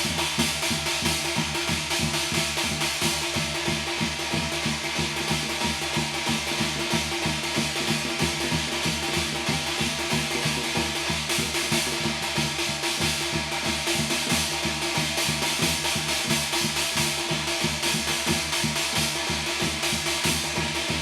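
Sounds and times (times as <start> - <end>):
fast drum beat: 0.0 - 21.0.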